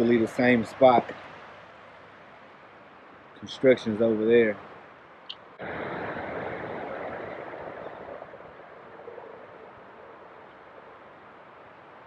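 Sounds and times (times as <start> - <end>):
highway traffic rush: 0.0 - 12.0.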